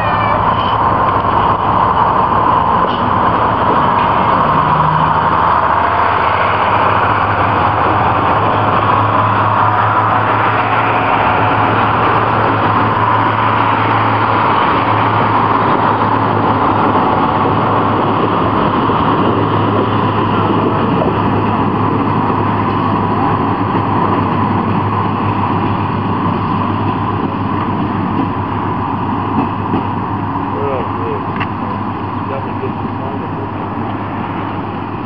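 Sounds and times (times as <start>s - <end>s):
low engine hum: 0.0s - 35.0s
vehicle rushing noise: 0.0s - 35.0s.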